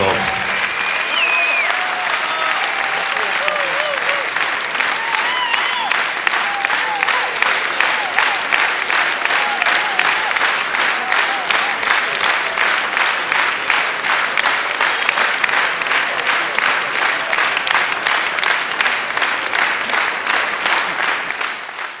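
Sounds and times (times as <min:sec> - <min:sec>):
audience clapping in time: 0:00.0 - 0:22.0.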